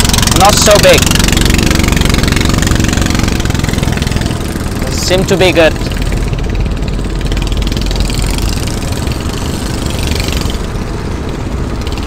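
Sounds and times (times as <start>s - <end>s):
small boat engine rumbling: 0.0s - 12.0s.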